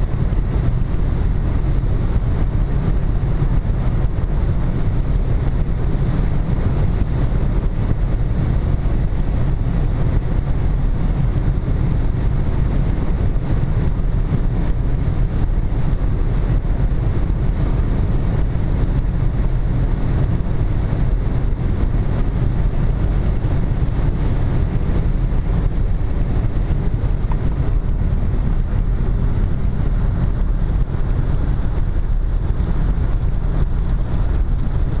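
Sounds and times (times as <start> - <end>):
car engine droning: 0.0 - 35.0
road noise: 0.0 - 35.0
wind noise: 0.0 - 35.0.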